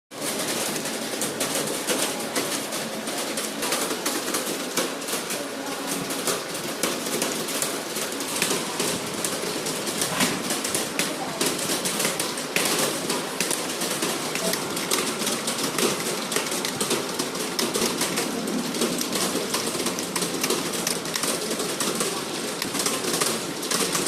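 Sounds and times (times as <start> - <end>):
keyboards clattering: 0.1 - 24.0.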